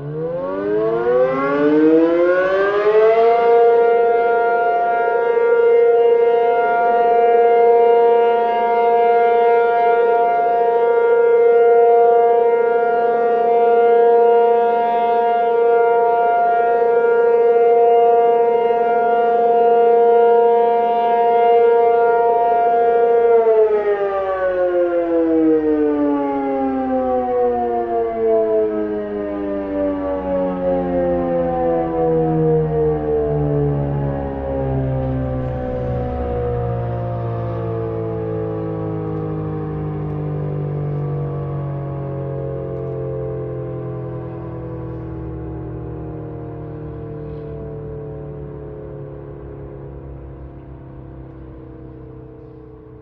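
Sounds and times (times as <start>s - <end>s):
tornado warning siren: 0.0s - 53.0s.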